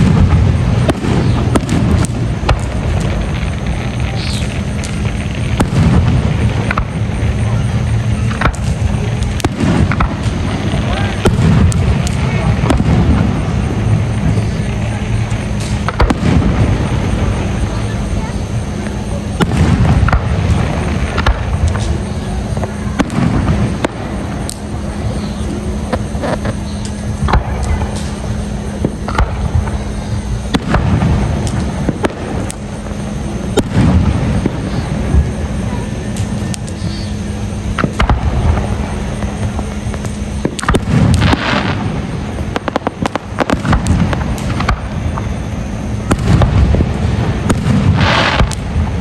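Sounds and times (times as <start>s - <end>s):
fireworks bangs and pops: 0.0s - 49.0s
fireworks hissing crackle: 0.0s - 49.0s
steady low rumble: 0.0s - 49.0s.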